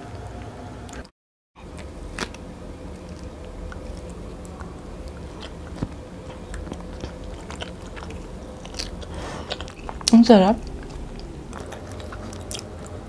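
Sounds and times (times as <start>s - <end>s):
close chewing: 0.9s - 13.0s.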